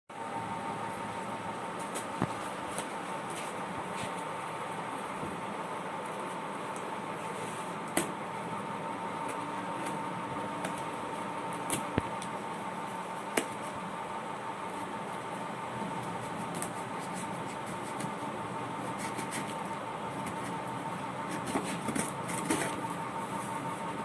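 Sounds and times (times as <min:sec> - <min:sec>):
mechanical hum with high tone: 0:00.1 - 0:24.0.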